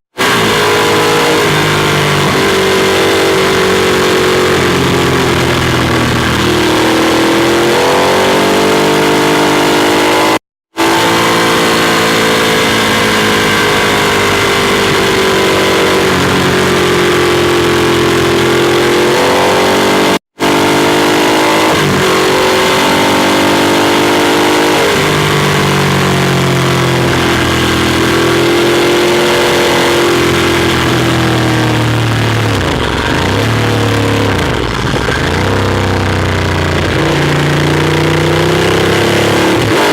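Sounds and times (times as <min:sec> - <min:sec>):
motorcycle engine revving: 0:00.1 - 0:39.9.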